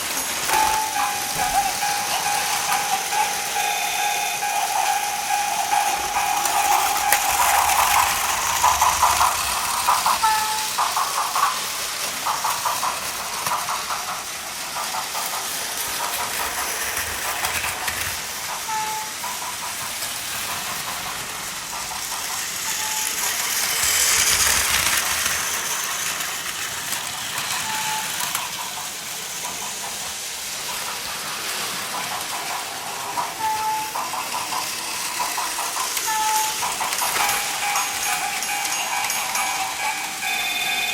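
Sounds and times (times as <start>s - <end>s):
toy train motors whirring: 0.0s - 40.9s
wheels rattling on plastic track: 0.0s - 40.9s.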